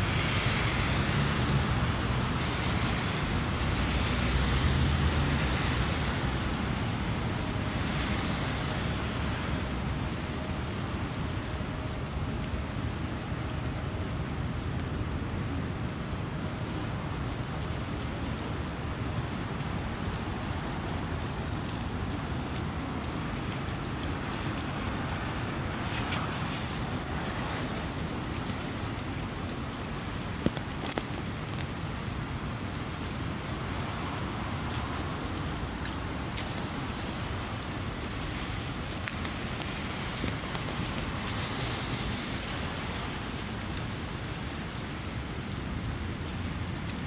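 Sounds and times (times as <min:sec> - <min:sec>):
crackling snow patter: 0:00.0 - 0:47.0
low traffic rumble: 0:00.0 - 0:47.0.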